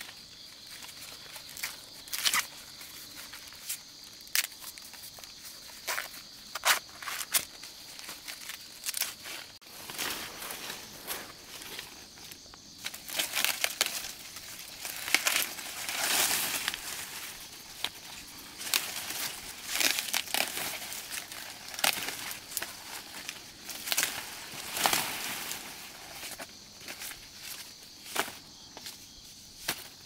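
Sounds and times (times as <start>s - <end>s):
dry rustling and crinkling: 0.0s - 30.0s.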